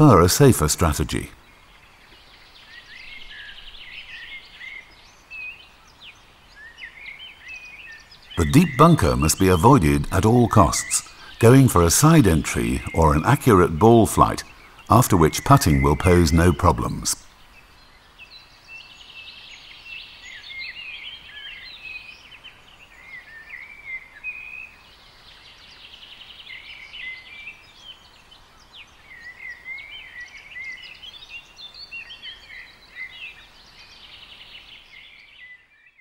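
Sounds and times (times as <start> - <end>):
songbirds chorus: 0.0 - 36.0.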